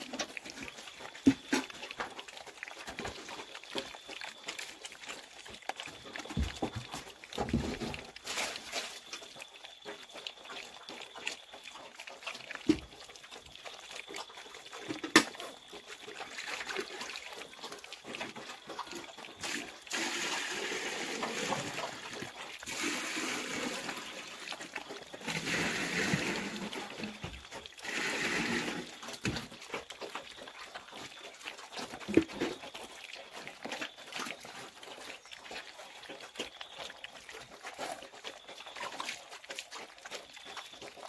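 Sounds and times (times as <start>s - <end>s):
piglets eating at a trough: 0.0s - 41.0s.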